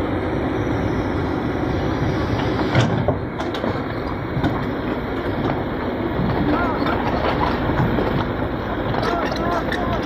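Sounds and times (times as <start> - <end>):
heavy diesel machinery running: 0.0 - 10.0.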